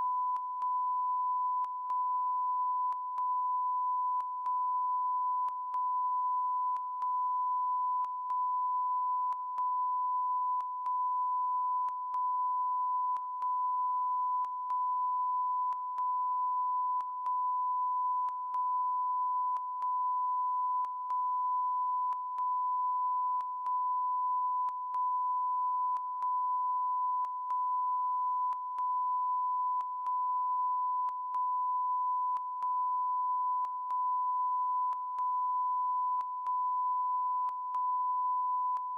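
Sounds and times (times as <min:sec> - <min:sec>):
electronic test tone beep: 0:00.0 - 0:38.9.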